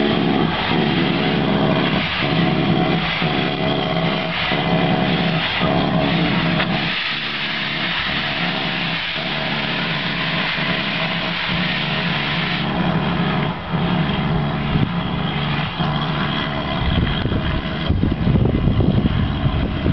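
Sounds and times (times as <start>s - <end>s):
low rumble: 0.0s - 19.9s
steam locomotive exhaust rushing: 0.0s - 19.9s.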